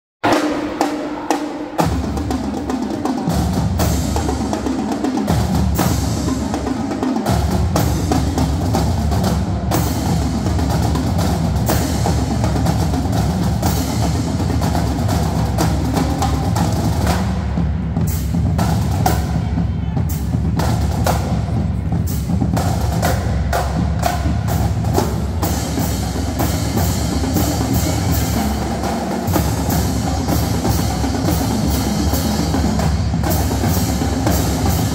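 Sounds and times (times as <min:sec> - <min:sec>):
snare drums: 0:00.2 - 0:34.9
tenor drums: 0:00.2 - 0:34.9
bass drums: 0:05.2 - 0:34.9.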